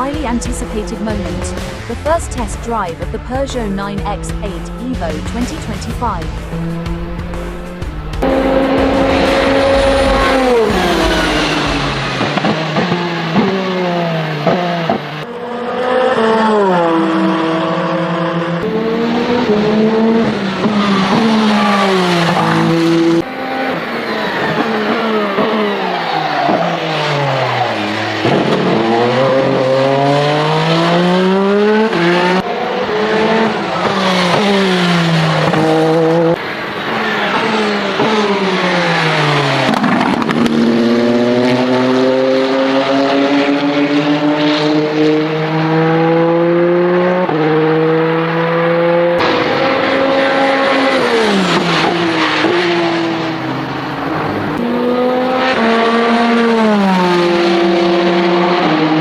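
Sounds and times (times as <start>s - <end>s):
race car engine at speed: 0.0s - 59.0s.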